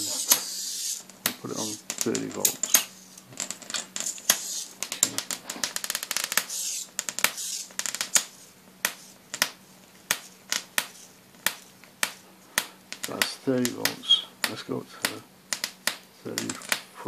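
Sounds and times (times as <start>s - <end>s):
electric arc snapping and crackling: 0.0s - 17.0s
faint steady hum: 0.0s - 17.0s.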